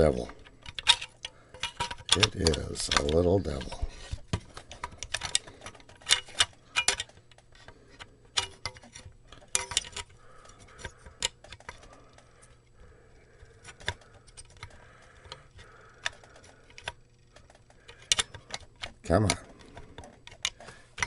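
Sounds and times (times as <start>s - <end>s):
clicks and knocks of parts handled: 0.0s - 21.0s.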